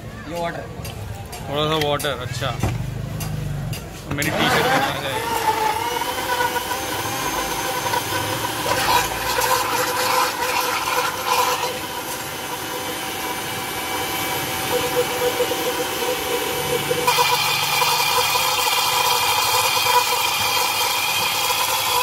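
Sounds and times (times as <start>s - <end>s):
mixer grinder whining: 4.1s - 22.0s.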